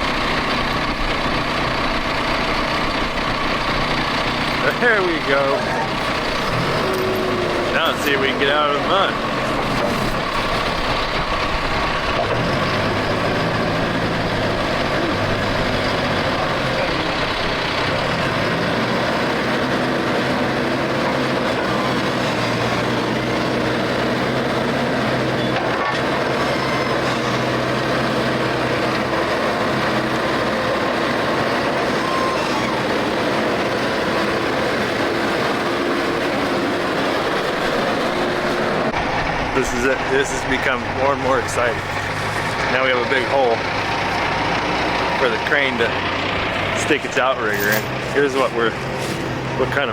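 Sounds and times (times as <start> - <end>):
heavy vehicle engine under load: 0.0 - 49.9.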